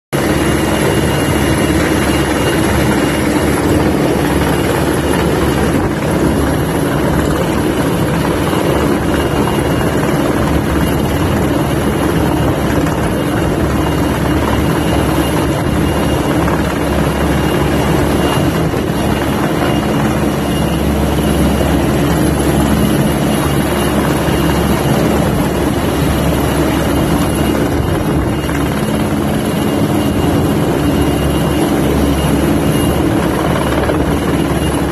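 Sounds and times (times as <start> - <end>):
helicopter rotor beat: 0.1 - 34.9
high turbine whine: 0.2 - 34.9.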